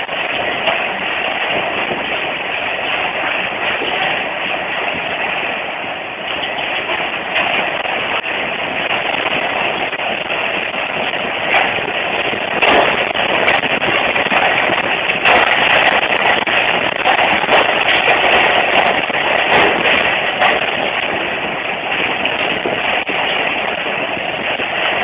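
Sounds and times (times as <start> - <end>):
earthquake rumble: 0.0 - 25.0
sharp crackles: 0.0 - 25.0.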